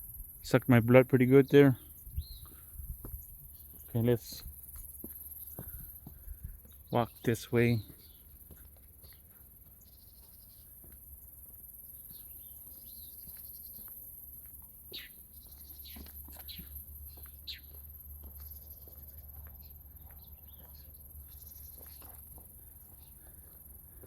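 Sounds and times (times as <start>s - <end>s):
birds calling: 0.2s - 14.0s, 14.8s - 24.0s.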